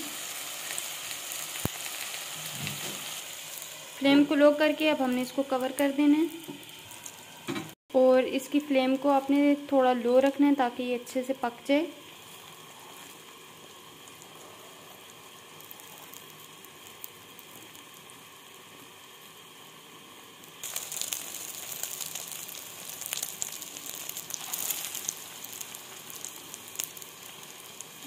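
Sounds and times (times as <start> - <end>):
egg sizzling in oil: 0.0 - 7.8, 11.0 - 28.0.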